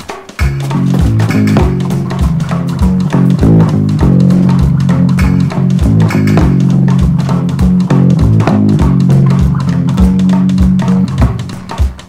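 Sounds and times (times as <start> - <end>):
instrumental guitar and bass music: 0.4 - 12.0.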